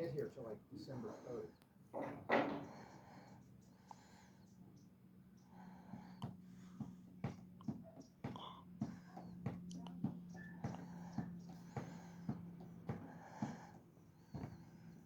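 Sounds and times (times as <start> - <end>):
steady low hum: 2.6 - 15.0.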